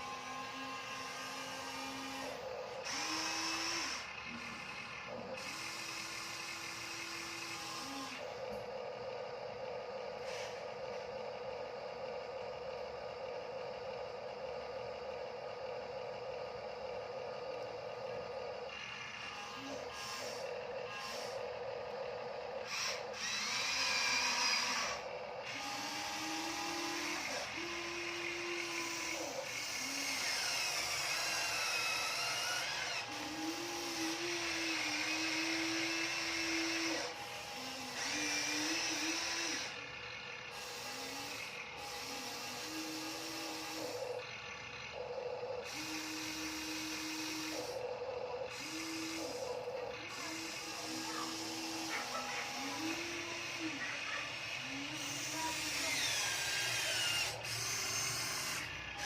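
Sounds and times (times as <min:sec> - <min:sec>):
small electric motors whirring: 0:00.0 - 0:59.0.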